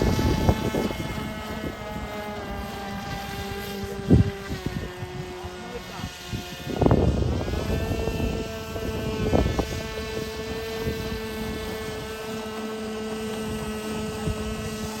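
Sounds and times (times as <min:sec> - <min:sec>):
small engine high-pitched whine: 0:00.0 - 0:15.0.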